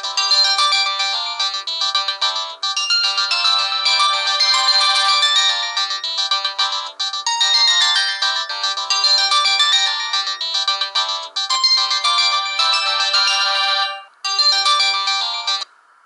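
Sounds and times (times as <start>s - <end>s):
polyphonic phone ringtone: 0.0s - 15.7s.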